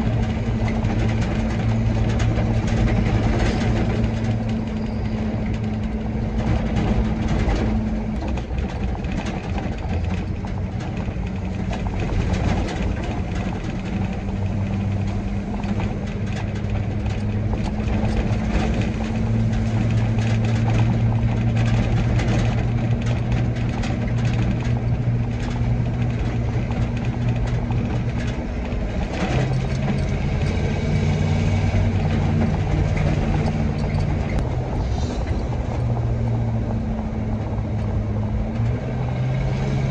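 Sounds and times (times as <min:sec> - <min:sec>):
road noise: 0:00.0 - 0:39.9
truck engine running: 0:00.0 - 0:39.9.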